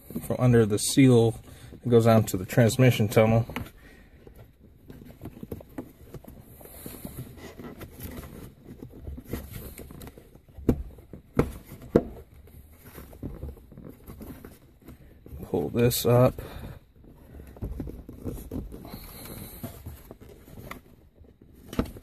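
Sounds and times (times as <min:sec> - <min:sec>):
rubber rustling and scraping: 0:00.0 - 0:22.0.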